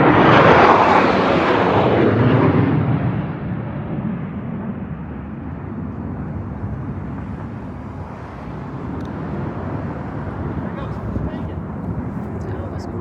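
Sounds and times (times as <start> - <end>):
jet formation rumbling: 0.0 - 13.0.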